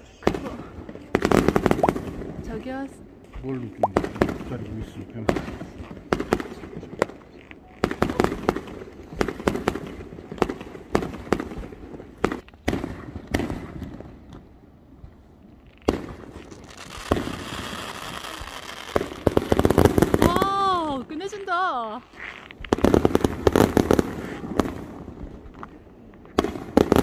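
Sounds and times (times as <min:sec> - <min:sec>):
hissing crackle of fireworks: 0:00.0 - 0:27.0
fireworks bangs and cracks: 0:00.2 - 0:21.6, 0:22.2 - 0:27.0.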